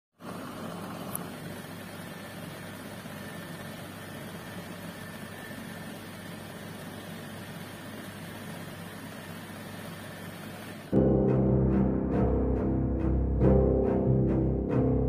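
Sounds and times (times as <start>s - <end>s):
low machine hum with hiss: 0.2s - 15.0s.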